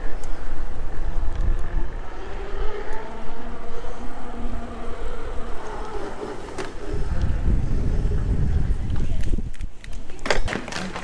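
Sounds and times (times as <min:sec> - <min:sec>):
electric motor whine: 0:00.0 - 0:09.3
wind rumble on microphone: 0:00.0 - 0:10.6.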